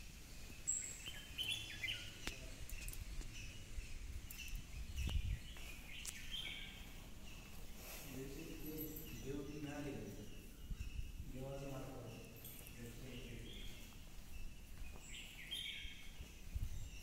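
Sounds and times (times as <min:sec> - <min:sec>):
background noise: 0:00.0 - 0:17.0
small birds chirping: 0:00.0 - 0:17.0.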